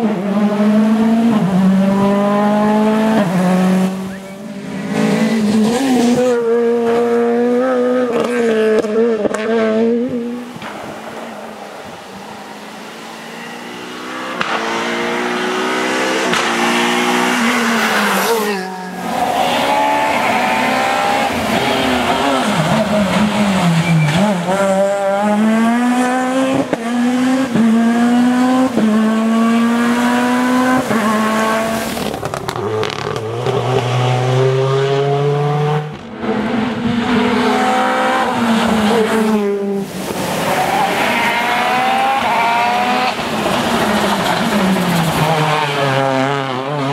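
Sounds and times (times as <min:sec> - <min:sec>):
rally car engines at full throttle: 0:00.0 - 0:46.9.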